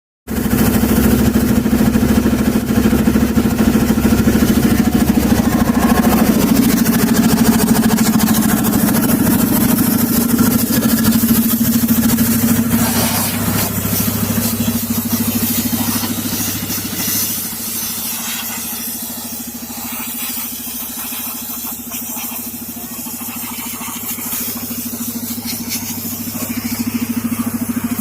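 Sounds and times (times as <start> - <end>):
air compressor engine droning: 0.3 - 28.0.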